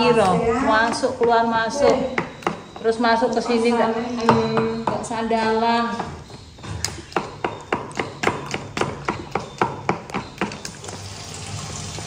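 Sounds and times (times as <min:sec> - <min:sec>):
utensil tapping on hard surface: 0:00.2 - 0:03.4, 0:04.2 - 0:10.8.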